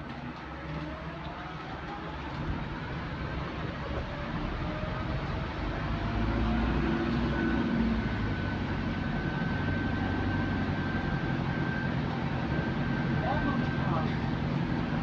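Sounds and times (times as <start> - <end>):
road and body rumble: 0.0 - 15.0.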